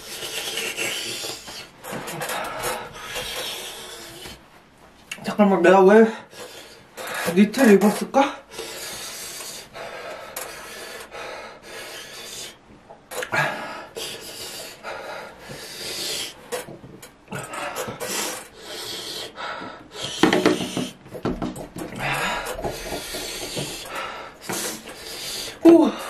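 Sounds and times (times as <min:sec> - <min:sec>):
man breathing hard: 0:00.0 - 0:04.4, 0:08.4 - 0:26.0.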